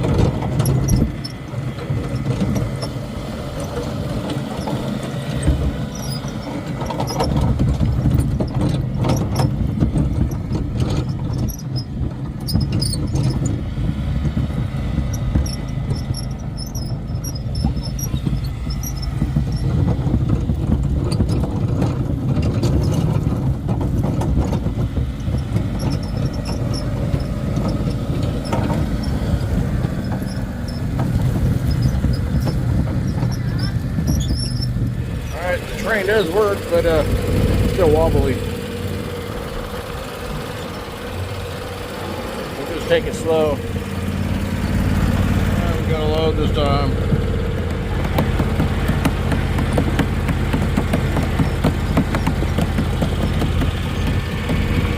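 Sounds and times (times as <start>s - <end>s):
high squeaks from cart wheels: 0.0s - 13.8s, 14.4s - 54.9s
carts rattling: 0.0s - 54.9s
lawn tractor engine running: 0.0s - 54.9s.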